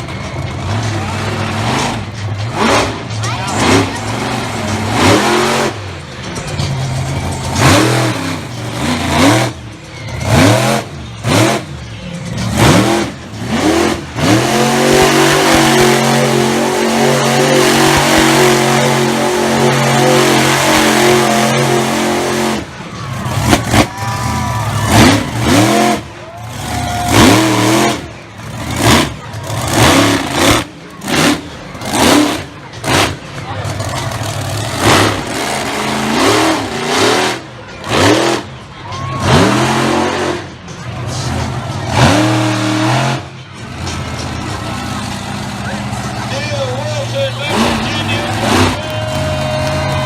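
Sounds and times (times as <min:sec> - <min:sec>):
truck engine revving: 0:00.0 - 0:50.0.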